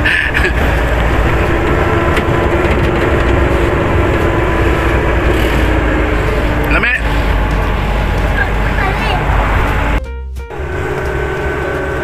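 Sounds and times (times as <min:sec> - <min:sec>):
engine drone: 0:00.0 - 0:12.0
low hum: 0:00.0 - 0:12.0
road rumble: 0:00.0 - 0:12.0.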